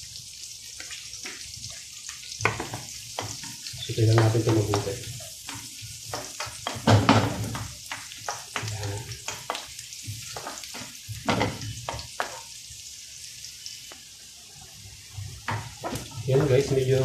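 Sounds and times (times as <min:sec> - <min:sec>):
garlic sizzling in a frying pan: 0:00.0 - 0:17.0.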